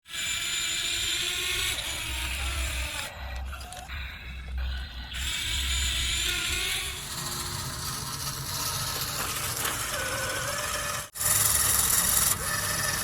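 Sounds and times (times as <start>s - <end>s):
toy electric motor and gears: 0.0s - 13.0s.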